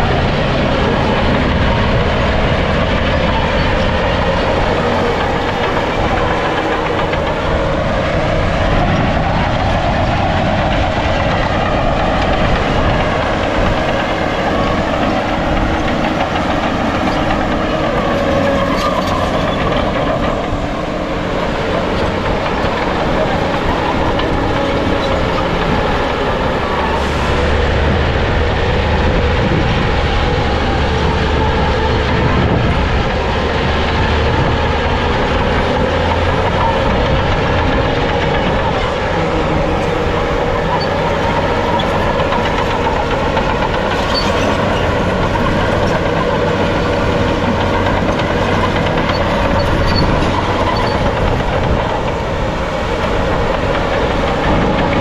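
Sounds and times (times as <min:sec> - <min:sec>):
bulldozer diesel engine: 0:00.0 - 0:55.0
clanking steel crawler tracks: 0:00.0 - 0:55.0.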